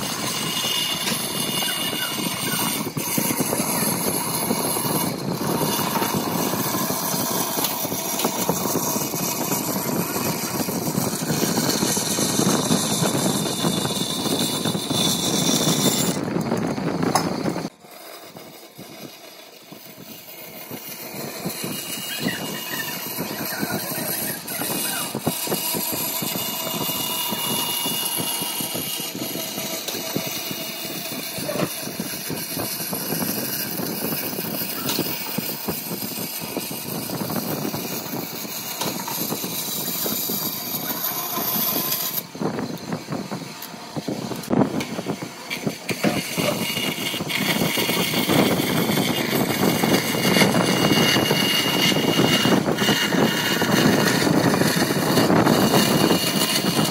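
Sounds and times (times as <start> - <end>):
band saw cutting wood: 0.0 - 56.9.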